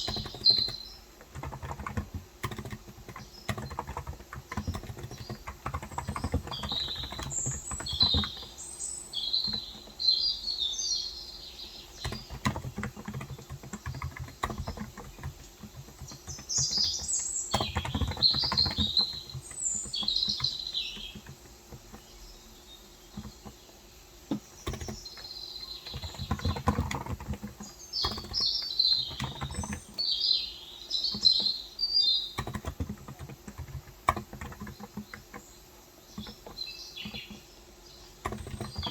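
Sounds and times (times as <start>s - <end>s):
keyboard typing clatter: 0.0s - 10.6s, 11.7s - 38.9s
small birds twittering: 0.0s - 38.9s.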